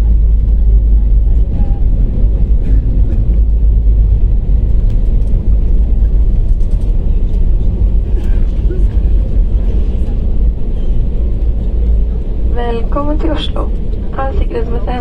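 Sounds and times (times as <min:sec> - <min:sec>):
airliner deep rumble in cabin: 0:00.0 - 0:15.0.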